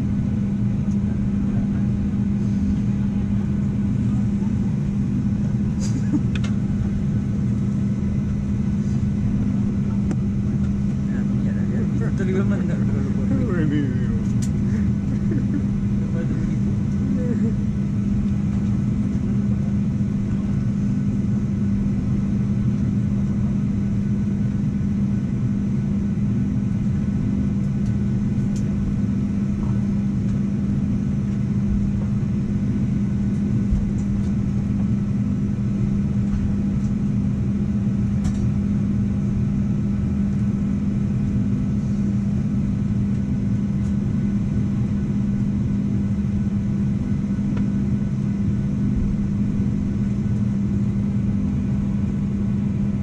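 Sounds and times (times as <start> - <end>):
aircraft cabin hum: 0.0 - 53.0
aircraft systems rumble: 0.0 - 53.0.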